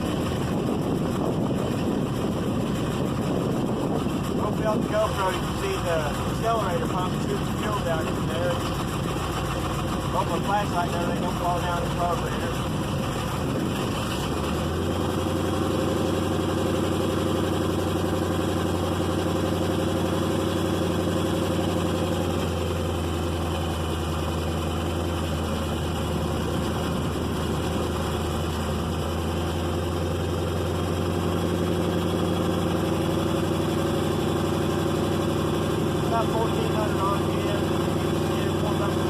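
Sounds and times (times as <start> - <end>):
engine running at fast idle: 0.0 - 39.0.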